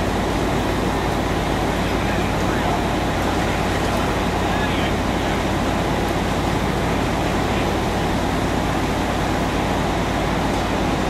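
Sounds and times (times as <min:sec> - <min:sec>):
diesel pumps running: 0:00.0 - 0:11.0
fire burning: 0:00.0 - 0:11.0
water streams: 0:00.0 - 0:11.0.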